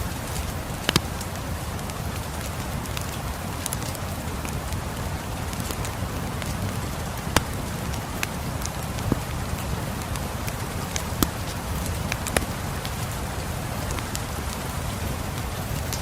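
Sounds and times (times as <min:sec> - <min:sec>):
steady rain hissing: 0:00.0 - 0:16.0
wood fire popping and crackling: 0:00.0 - 0:16.0.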